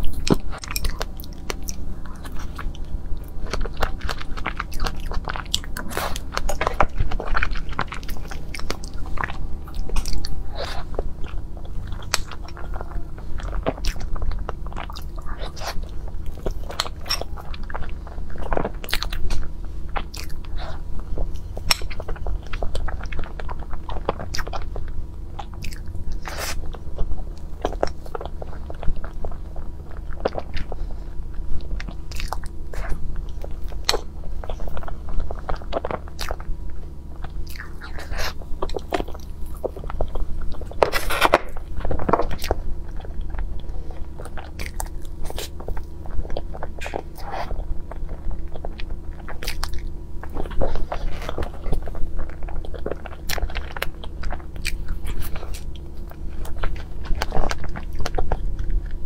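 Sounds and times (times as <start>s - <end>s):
person chewing with wet mouth sounds: 0.0s - 59.0s
steady low hum: 0.0s - 59.0s.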